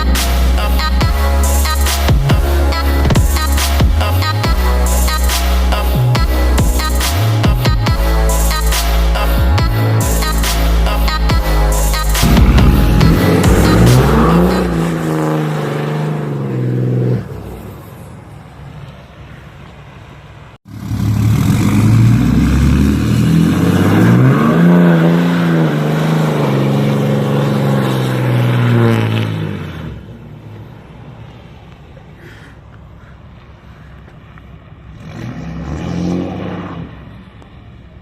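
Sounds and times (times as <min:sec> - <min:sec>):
diesel truck engine revving: 0:00.0 - 0:18.9, 0:20.6 - 0:31.4, 0:34.6 - 0:37.5.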